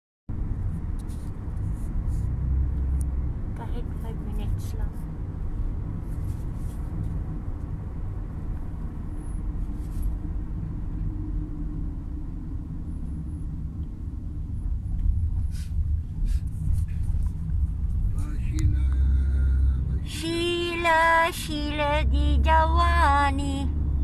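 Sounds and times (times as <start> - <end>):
car cabin road rumble: 0.3 - 24.0.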